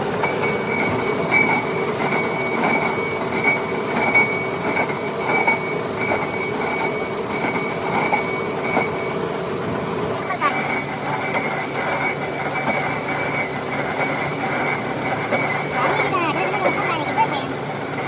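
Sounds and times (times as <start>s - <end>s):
lathe tool squealing: 0.0s - 9.3s, 10.2s - 18.0s.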